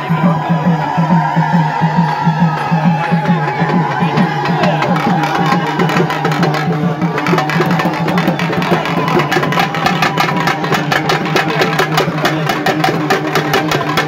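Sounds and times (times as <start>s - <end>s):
drum ensemble playing: 0.0s - 14.0s.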